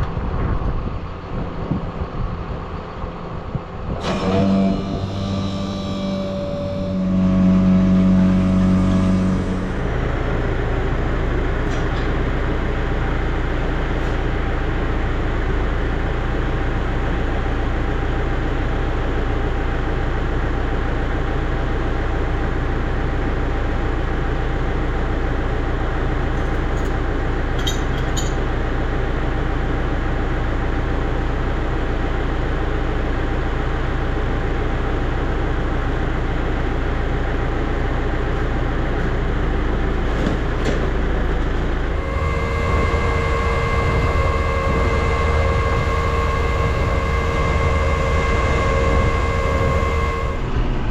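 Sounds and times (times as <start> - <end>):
farm vehicle engine running: 0.0 - 50.9.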